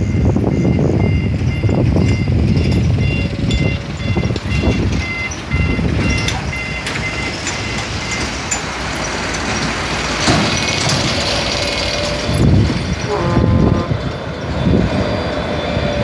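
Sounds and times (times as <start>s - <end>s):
dump truck passing: 0.0s - 16.0s
wind buffeting microphone: 0.0s - 16.0s.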